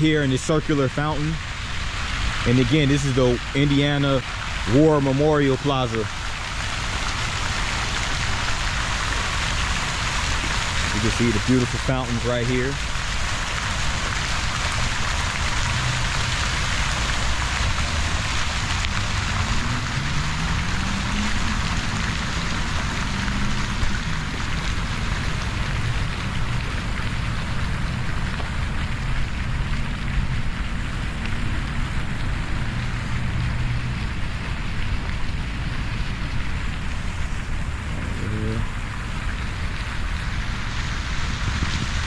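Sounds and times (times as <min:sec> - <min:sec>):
fountain water splashing: 0:00.0 - 0:42.0
traffic engine hum: 0:00.0 - 0:42.0.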